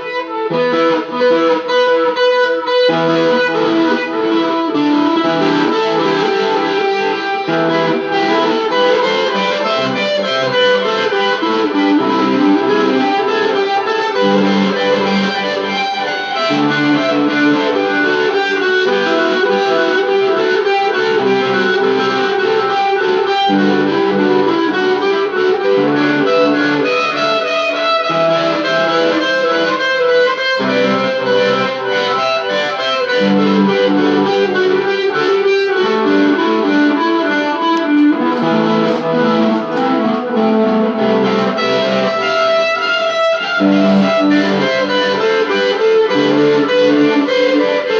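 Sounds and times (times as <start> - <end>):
instrumental guitar music: 0.0 - 47.9.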